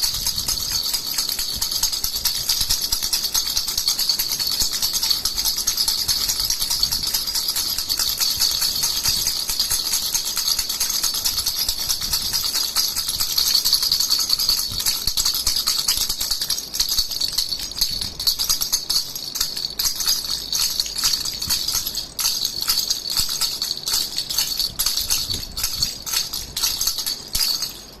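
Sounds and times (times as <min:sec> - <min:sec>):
baby rattle jingling: 0:00.0 - 0:28.0.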